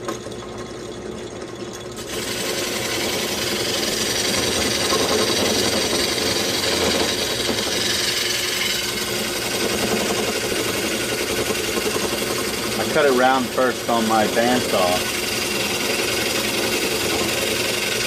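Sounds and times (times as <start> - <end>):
drill press running: 0.0 - 18.0.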